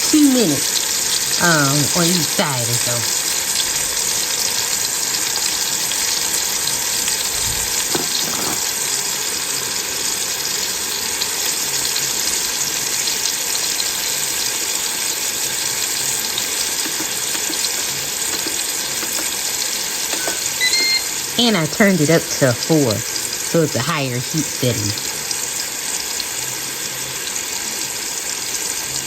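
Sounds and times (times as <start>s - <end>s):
meat sizzling in grease: 0.0s - 29.0s.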